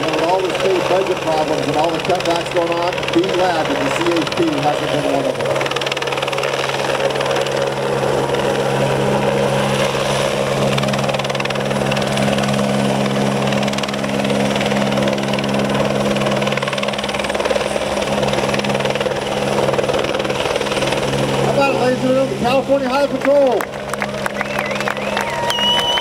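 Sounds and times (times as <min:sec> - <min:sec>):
helicopter running: 0:00.0 - 0:26.0.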